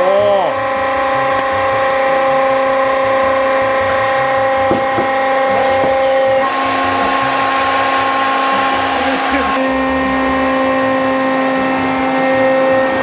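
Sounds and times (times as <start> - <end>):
hydraulic baler motor whining: 0.0 - 13.0.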